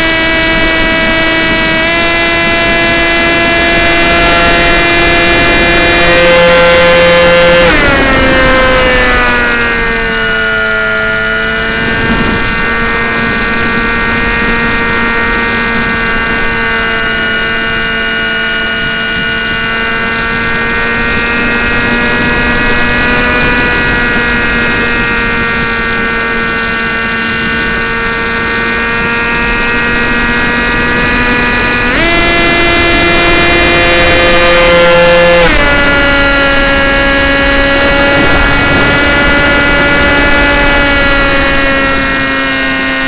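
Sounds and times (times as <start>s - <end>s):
wind rush: 0.0s - 17.8s, 18.5s - 43.0s
model plane motor whining: 0.0s - 43.0s.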